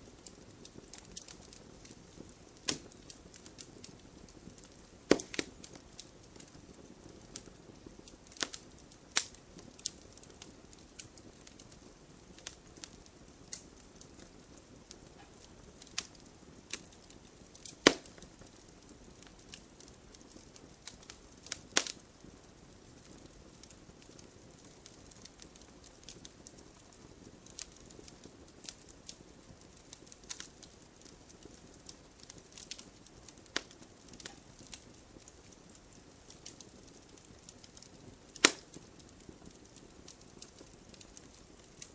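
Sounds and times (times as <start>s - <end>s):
soft fire hiss: 0.0s - 41.9s
wood fire crackling and popping: 0.0s - 41.9s.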